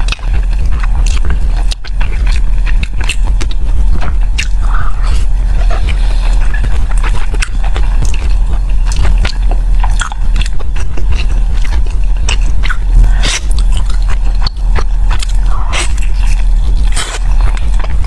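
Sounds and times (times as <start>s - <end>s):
steady low hum: 0.0s - 18.0s
wet chewing and smacking: 0.0s - 18.0s.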